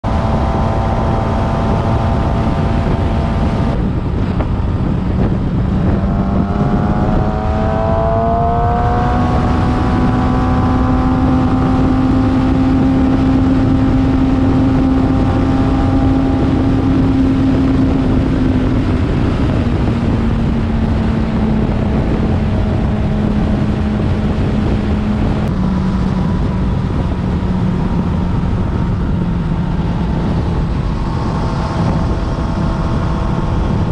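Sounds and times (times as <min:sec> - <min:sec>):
motorcycle engine running: 0:00.0 - 0:33.9
wind and road noise: 0:00.0 - 0:33.9.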